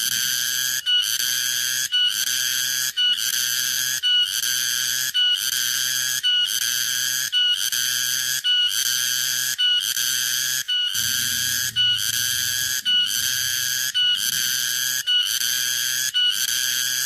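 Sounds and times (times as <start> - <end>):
cicada buzzing call: 0.0 - 17.0.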